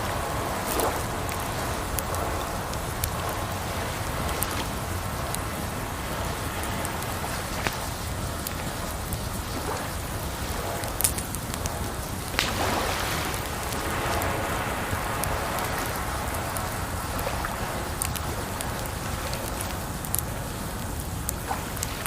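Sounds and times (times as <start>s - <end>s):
campfire crackling and popping: 0.0s - 22.0s
running water: 0.0s - 22.0s.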